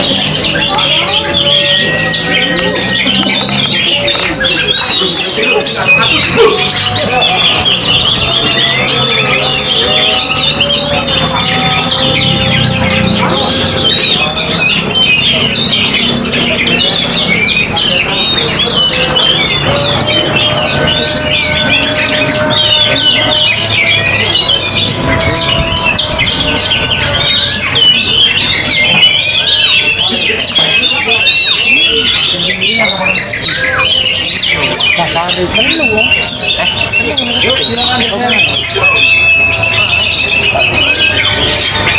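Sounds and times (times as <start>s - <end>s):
birds singing: 0.0s - 41.9s.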